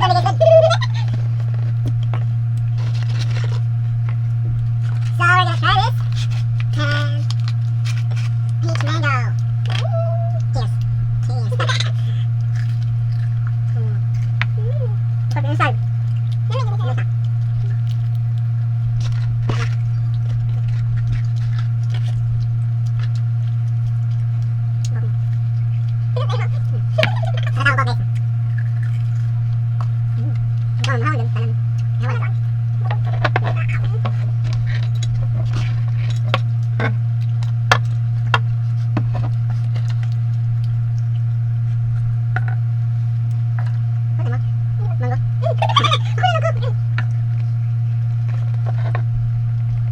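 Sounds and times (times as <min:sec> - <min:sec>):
eating noises: 0:00.0 - 0:49.9
loud low electrical hum: 0:00.0 - 0:49.9.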